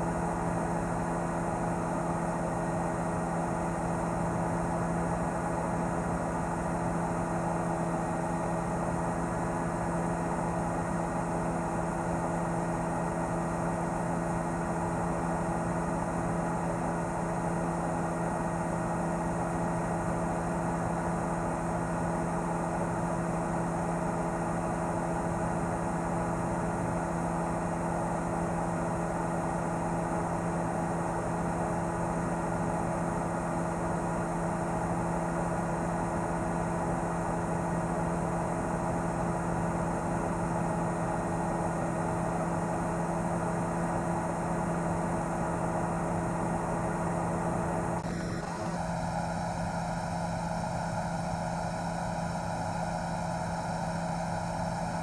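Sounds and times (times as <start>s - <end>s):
helicopter engine and rotors drone: 0.0s - 55.0s.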